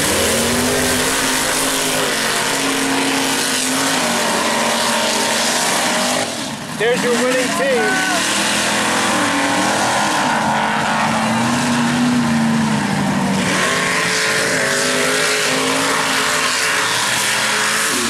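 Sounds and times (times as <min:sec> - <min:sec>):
truck engines running hard: 0:00.0 - 0:18.0.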